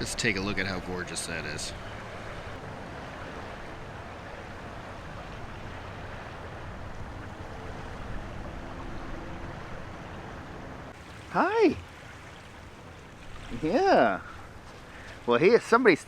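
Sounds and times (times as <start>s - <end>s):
rushing water: 0.0s - 16.0s
wind: 0.0s - 16.0s.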